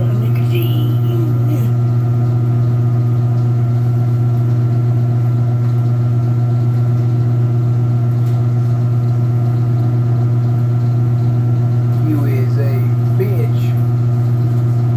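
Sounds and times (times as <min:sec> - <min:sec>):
washing machine spinning: 0:00.0 - 0:14.9.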